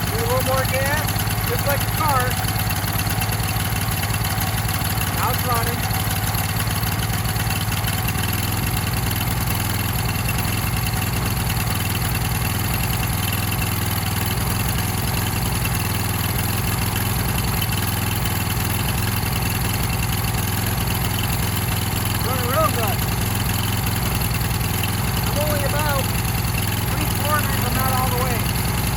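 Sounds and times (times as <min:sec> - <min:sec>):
small generator engine running: 0:00.0 - 0:28.9.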